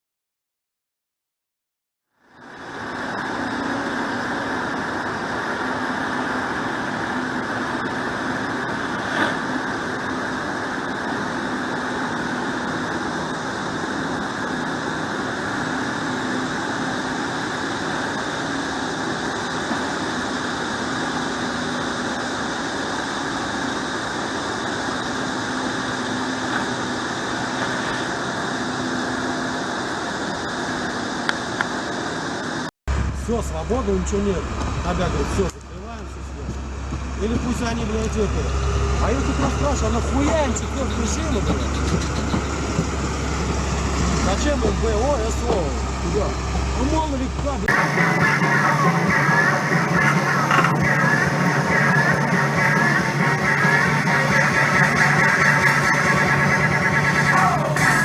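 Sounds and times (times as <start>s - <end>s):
vehicle engine running: 2.2s - 58.0s.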